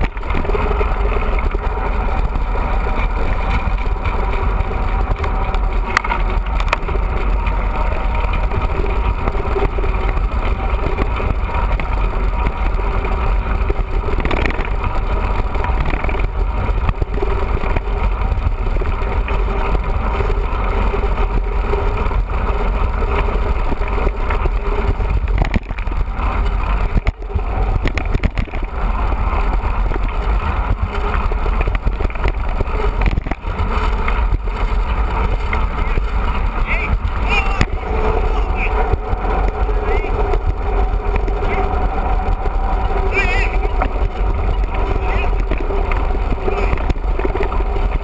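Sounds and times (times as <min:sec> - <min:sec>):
bike knocks and rattles: 0:00.0 - 0:48.0
wind buffeting microphone: 0:00.0 - 0:48.0.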